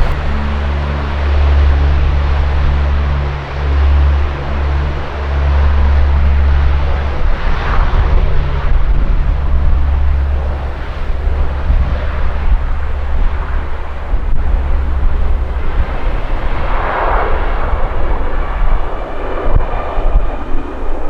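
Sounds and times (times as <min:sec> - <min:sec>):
aircraft engines passing: 0:00.0 - 0:21.0.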